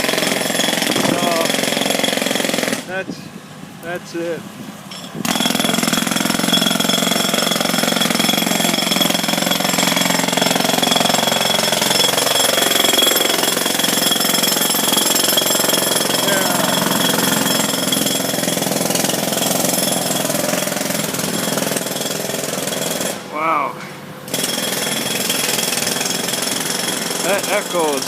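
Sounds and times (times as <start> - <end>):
jackhammer hammering: 0.0 - 3.1, 3.9 - 28.0.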